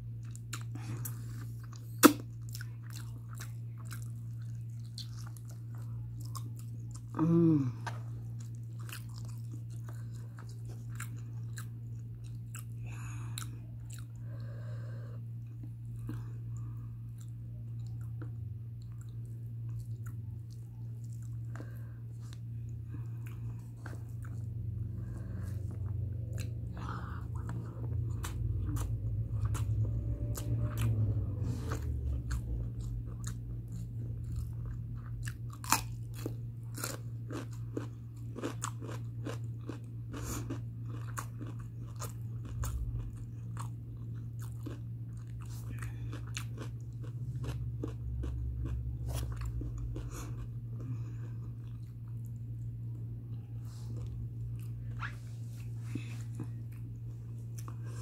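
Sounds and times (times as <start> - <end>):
person chewing food: 0.0 - 58.0
steady low hum: 0.0 - 58.0.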